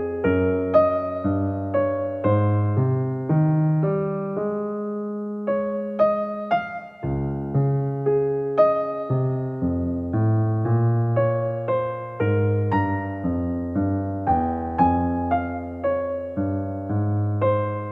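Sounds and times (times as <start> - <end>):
gentle electric piano music: 0.0 - 17.9.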